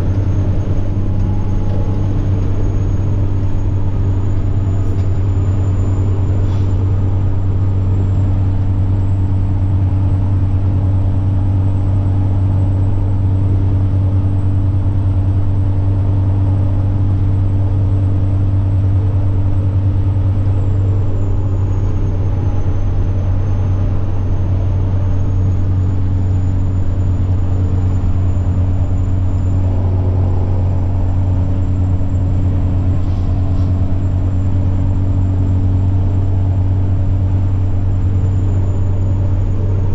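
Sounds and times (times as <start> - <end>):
truck diesel engine drone: 0.0 - 39.9
turbocharger whine: 0.0 - 39.9.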